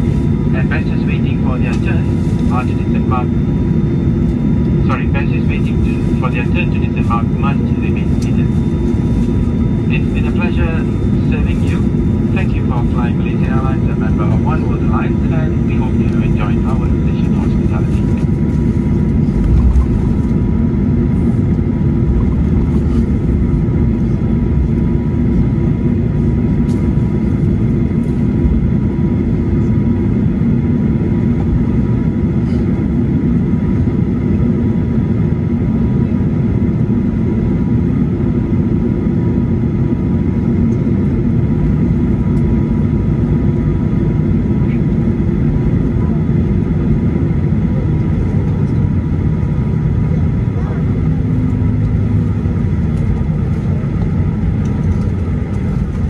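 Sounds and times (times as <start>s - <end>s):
faint engine whine: 0.0s - 56.0s
jet engines idling rumble: 0.0s - 56.0s.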